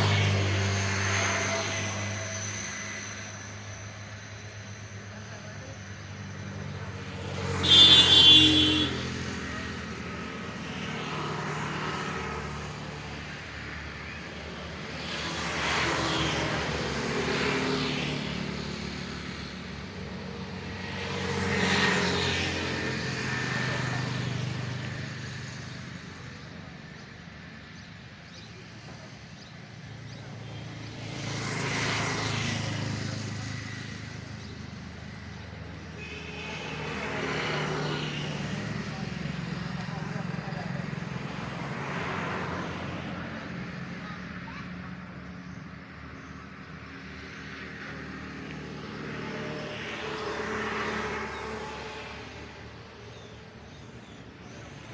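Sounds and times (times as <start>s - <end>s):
vehicles passing: 0.0s - 54.9s.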